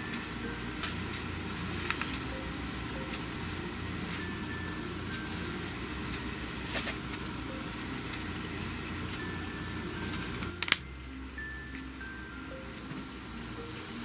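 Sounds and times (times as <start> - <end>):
cat purring: 0.2 - 14.0.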